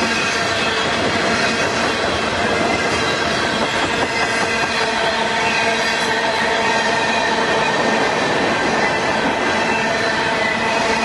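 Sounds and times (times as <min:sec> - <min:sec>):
freight train rumbling past: 0:00.0 - 0:11.0
high wheel squeal: 0:00.1 - 0:11.0.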